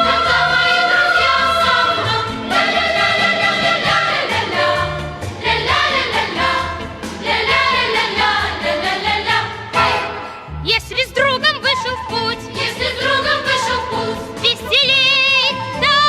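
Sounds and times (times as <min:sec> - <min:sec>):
choir singing: 0:00.0 - 0:10.5, 0:11.3 - 0:16.0.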